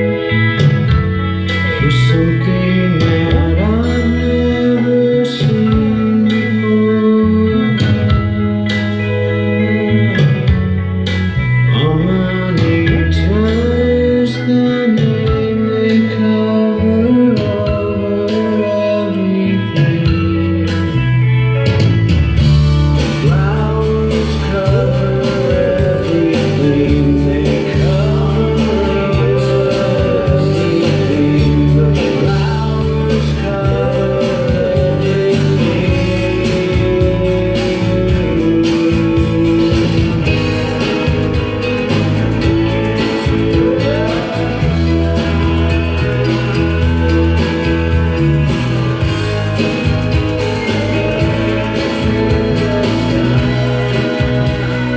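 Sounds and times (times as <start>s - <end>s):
guitar: 0.0s - 54.9s
person singing: 0.0s - 54.9s.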